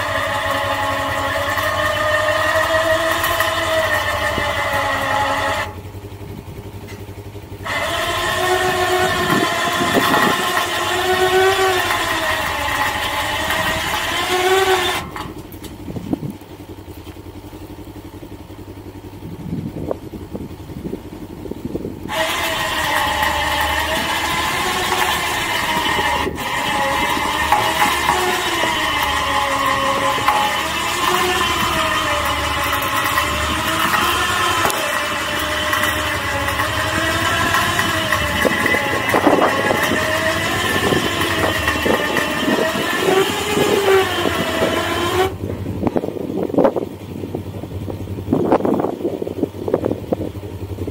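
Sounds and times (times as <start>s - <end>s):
electric winch motor whining: 0.0s - 50.9s.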